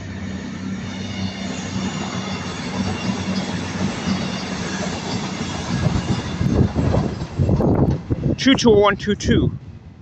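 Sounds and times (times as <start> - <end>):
train wheels rolling on rails: 0.0 - 8.6
diesel train engines droning: 0.0 - 10.0.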